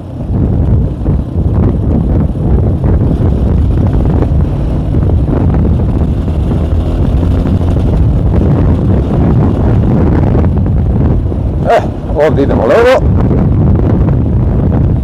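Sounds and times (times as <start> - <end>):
motorcycle two-stroke engine running: 0.0 - 15.0
wind noise on microphone: 0.0 - 15.0.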